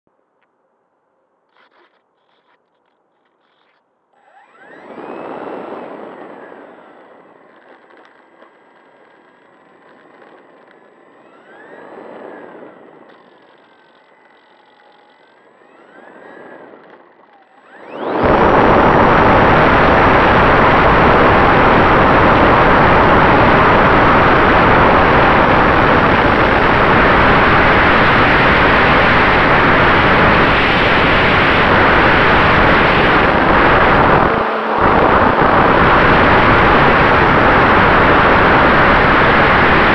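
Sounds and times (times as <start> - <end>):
model airplane motor whine: 1.5 - 39.9
propeller and wind rush: 4.2 - 14.4, 15.1 - 39.9.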